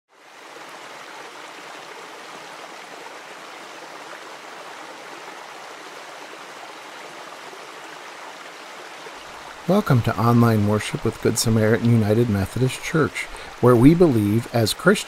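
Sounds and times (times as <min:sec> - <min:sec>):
stream splashing over rocks: 0:00.1 - 0:15.0.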